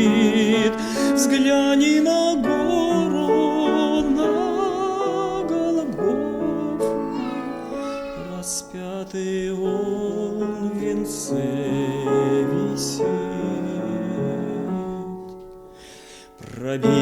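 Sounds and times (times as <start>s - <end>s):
man singing a hymn: 0.0s - 17.0s
instrumental accompaniment: 2.4s - 16.4s.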